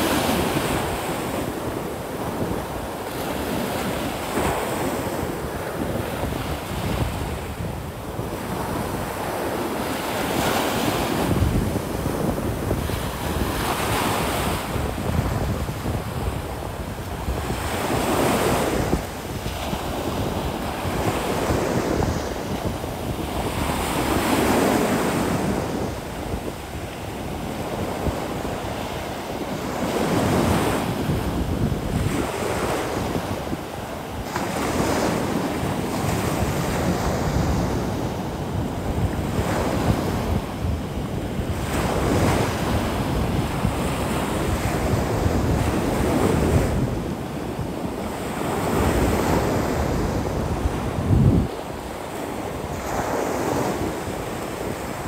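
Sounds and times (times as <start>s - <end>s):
ocean surf breaking: 0.0s - 55.0s
wind buffeting microphone: 0.0s - 55.0s.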